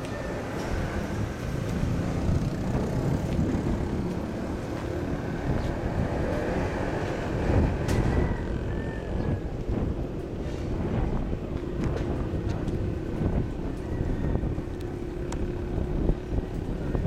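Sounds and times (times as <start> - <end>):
machinery engine rumble: 0.0 - 17.0.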